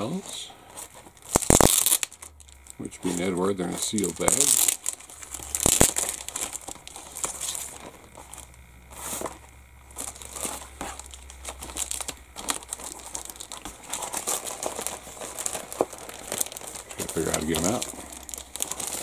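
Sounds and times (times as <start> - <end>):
plastic bag crinkling: 0.8 - 9.3, 9.9 - 19.0.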